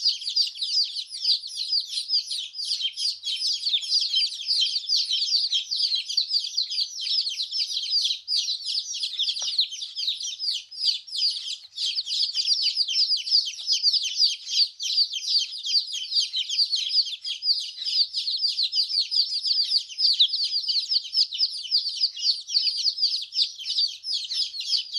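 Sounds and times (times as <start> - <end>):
chicks peeping: 0.0 - 24.9.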